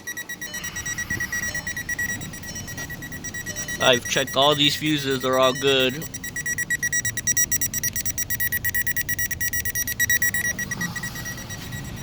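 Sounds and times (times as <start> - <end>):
car warning beeper: 0.0 - 12.0.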